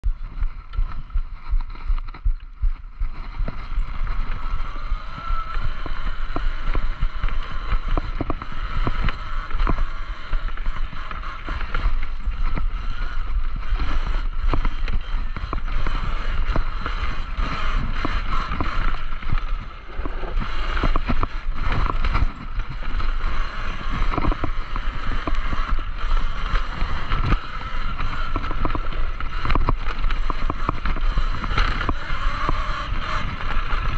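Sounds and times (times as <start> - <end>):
bike rattling over bumps: 0.0 - 33.9
wind rumble on microphone: 0.0 - 33.9
electric motor whine: 3.1 - 33.9.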